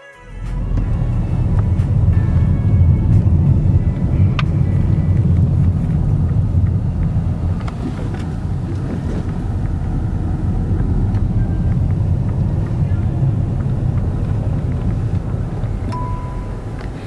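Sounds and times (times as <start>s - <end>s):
car interior engine and road rumble: 0.3s - 17.0s.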